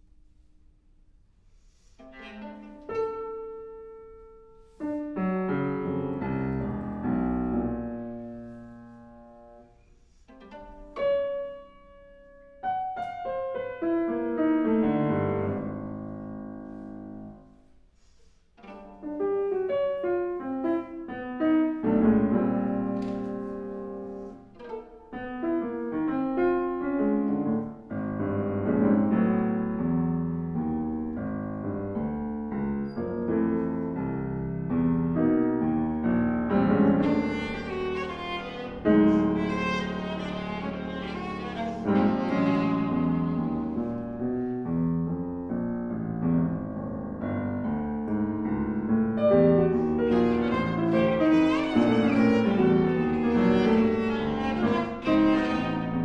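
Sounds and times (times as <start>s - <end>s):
piano playing: 2.1s - 9.6s, 10.4s - 17.6s, 18.6s - 56.0s.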